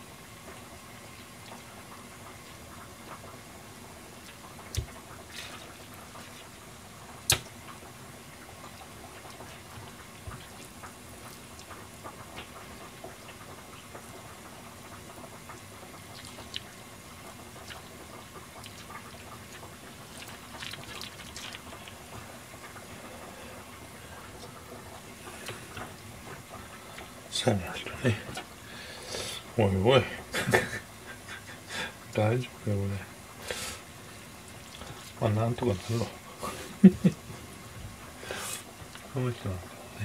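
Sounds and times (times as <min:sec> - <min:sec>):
low hiss: 0:00.0 - 0:40.0.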